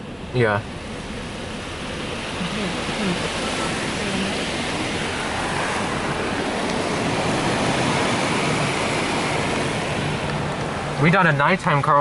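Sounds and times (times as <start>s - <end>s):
car wash water rushing: 0.0s - 12.0s.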